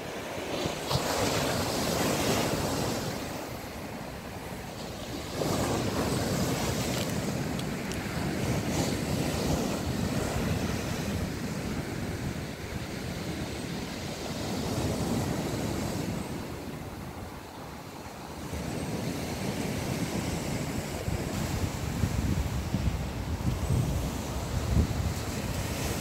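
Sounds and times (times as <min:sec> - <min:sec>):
waves washing on shore: 0:00.0 - 0:26.0
wind on microphone: 0:00.0 - 0:26.0.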